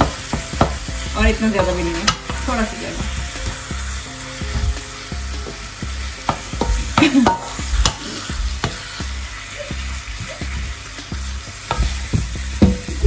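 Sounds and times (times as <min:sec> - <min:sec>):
spatula tapping and scraping a pan: 0:00.0 - 0:03.8, 0:05.4 - 0:09.2, 0:10.0 - 0:13.0
minced meat sizzling in a pan: 0:00.0 - 0:13.0.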